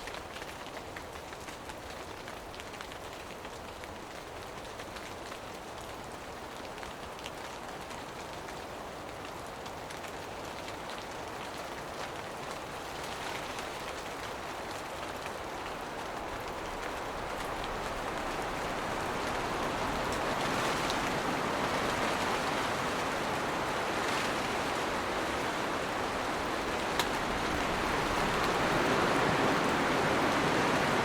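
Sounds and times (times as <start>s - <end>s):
rain shower falling: 0.0s - 31.0s.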